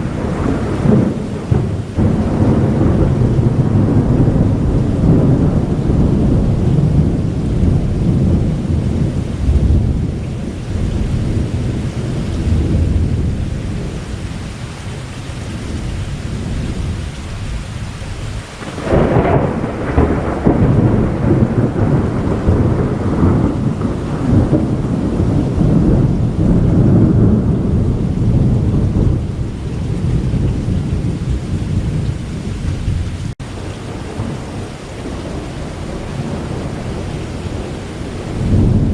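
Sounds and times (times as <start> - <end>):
sharp thunderclap: 0.0 - 14.0, 18.6 - 38.9
steady rain: 0.0 - 38.9
thunder rolling: 0.0 - 38.9.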